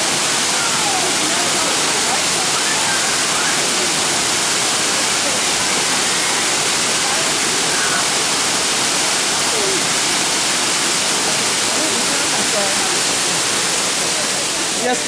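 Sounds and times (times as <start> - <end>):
faint voices: 0.0 - 15.0
waterfall rushing: 0.0 - 15.0.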